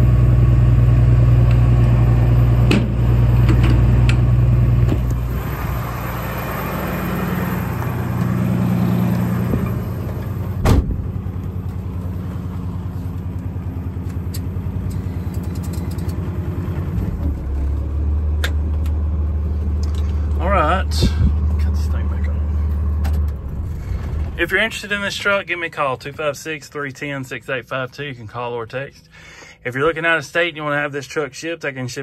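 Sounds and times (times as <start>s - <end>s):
engine idling: 0.0s - 26.6s.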